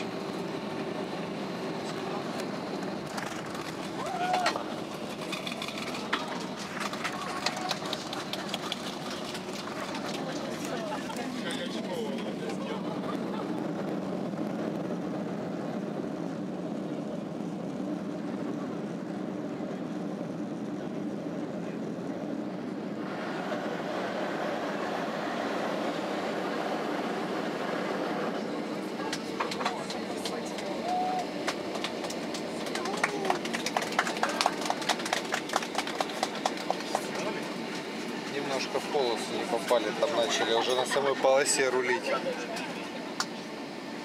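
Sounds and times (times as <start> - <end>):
airplane cabin noise on runway: 0.0 - 44.0.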